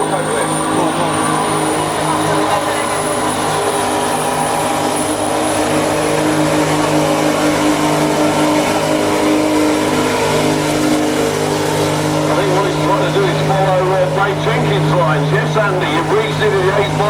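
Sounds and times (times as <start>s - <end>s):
diesel engine at high revs: 0.0s - 17.0s.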